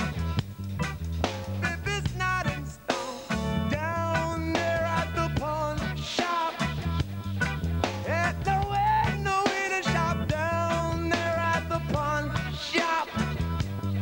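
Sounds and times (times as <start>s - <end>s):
song with bass and drum beat: 0.0s - 14.0s.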